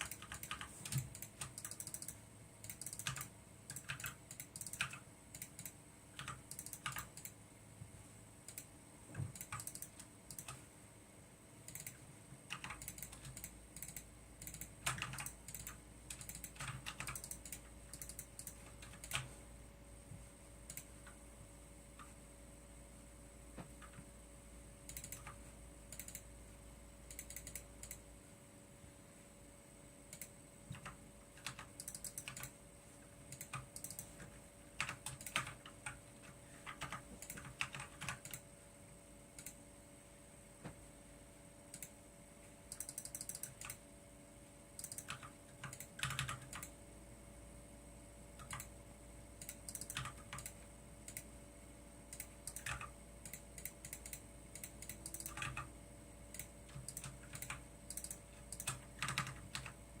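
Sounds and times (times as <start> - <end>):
faint steady hum: 0.0 - 60.0.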